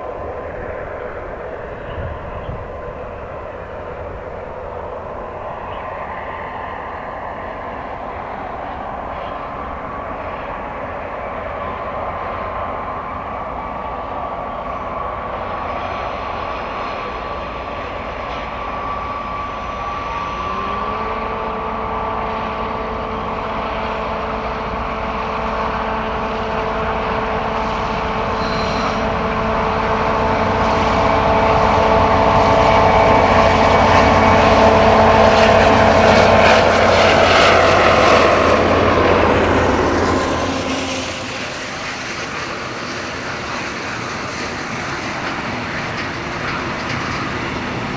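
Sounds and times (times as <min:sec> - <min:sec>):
diesel locomotives at full power: 0:00.0 - 0:47.9.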